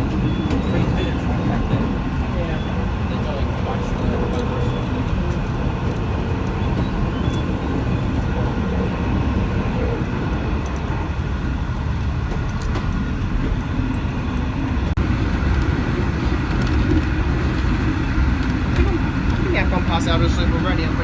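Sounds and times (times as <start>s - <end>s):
train carriage rumbling on track: 0.0s - 21.0s.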